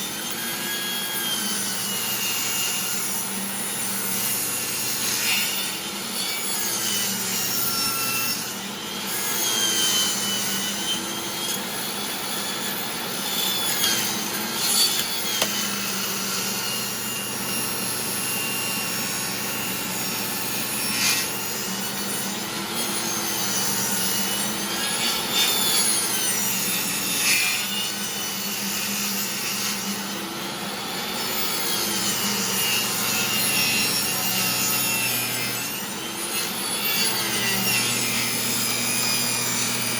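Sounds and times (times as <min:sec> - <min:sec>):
saw blade whine: 0:00.0 - 0:39.9
table saw motor hum: 0:00.0 - 0:39.9.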